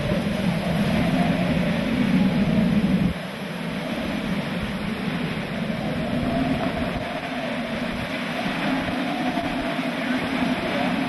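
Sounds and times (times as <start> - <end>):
driving rain: 0.0 - 11.0
howling wind: 0.0 - 11.0.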